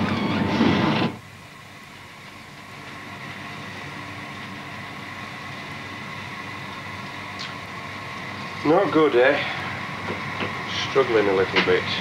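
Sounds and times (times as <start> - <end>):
faint hum: 0.0 - 12.0
train running: 0.0 - 12.0.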